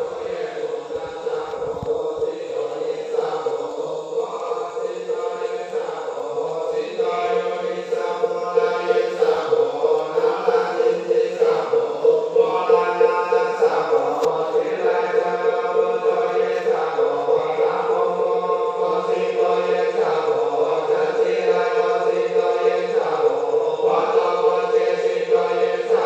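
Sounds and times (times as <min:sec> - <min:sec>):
voices chanting scripture: 0:00.0 - 0:26.0.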